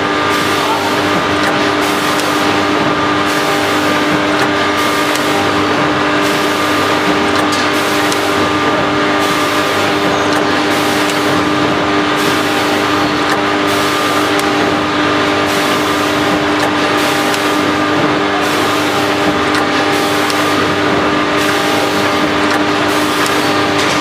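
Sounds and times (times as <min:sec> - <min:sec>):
packing machine humming: 0:00.0 - 0:24.0.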